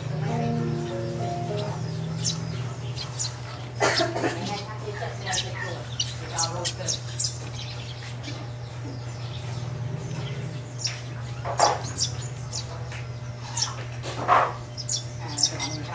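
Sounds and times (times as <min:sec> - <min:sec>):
sparrows chirping: 0:00.0 - 0:15.9
steady low hum: 0:00.0 - 0:15.9.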